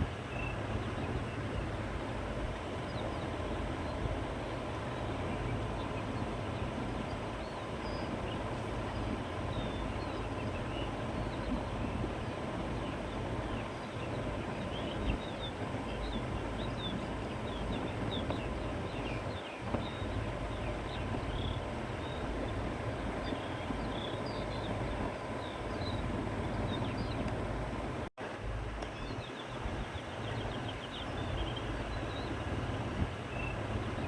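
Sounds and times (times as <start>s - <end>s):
small birds chirping faintly: 0.0s - 28.1s, 28.7s - 34.0s
wind blowing with low rumble: 0.0s - 34.0s.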